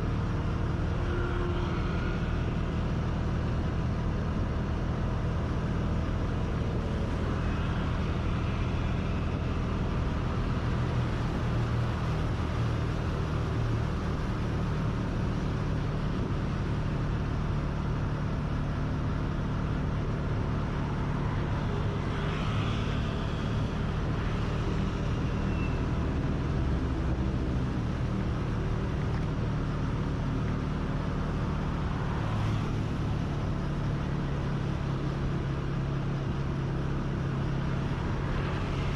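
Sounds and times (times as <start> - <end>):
road and traffic noise: 0.0 - 38.9
vehicle engine running: 0.0 - 38.9.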